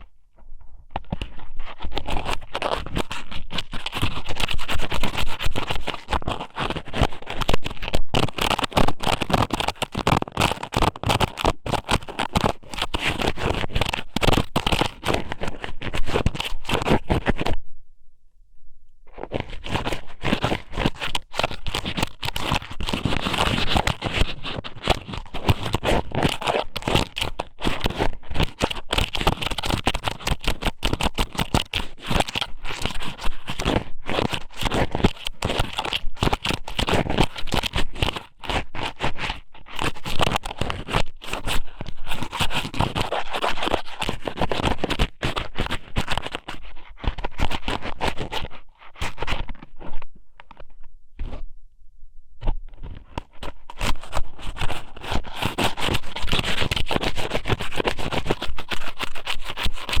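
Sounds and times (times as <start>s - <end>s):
crackling scrape on microphone: 0.0s - 17.6s, 19.1s - 51.5s, 52.4s - 60.0s.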